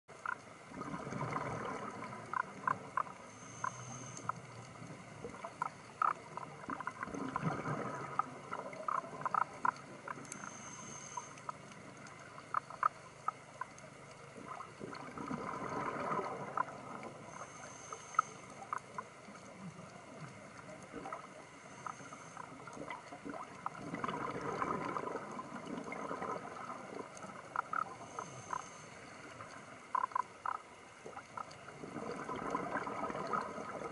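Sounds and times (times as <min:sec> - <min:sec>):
underwater bubbles gurgling: 0:00.1 - 0:33.9.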